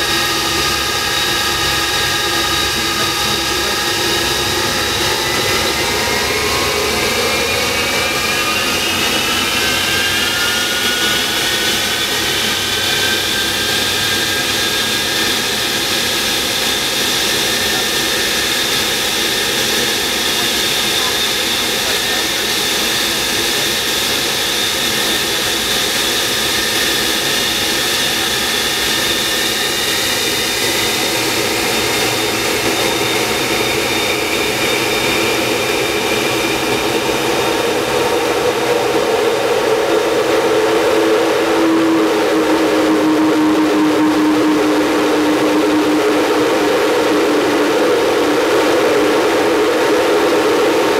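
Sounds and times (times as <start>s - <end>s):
jet engines whining at high power: 0.0s - 50.9s.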